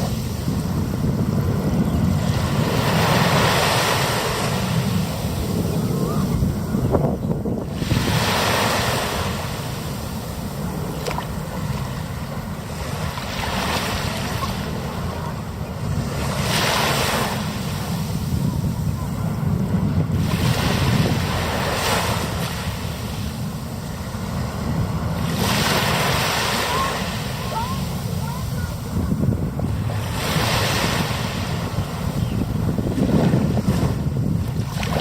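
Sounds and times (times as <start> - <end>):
ocean waves breaking: 0.0 - 35.0
wind rumble on microphone: 0.0 - 35.0.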